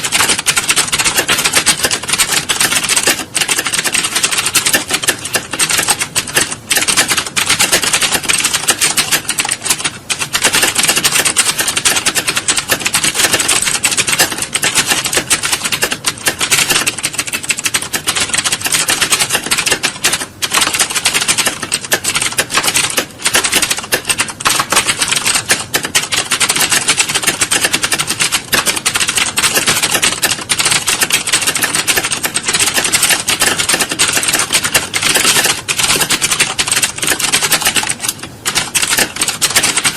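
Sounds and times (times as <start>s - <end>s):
many keyboards typing: 0.0s - 39.9s.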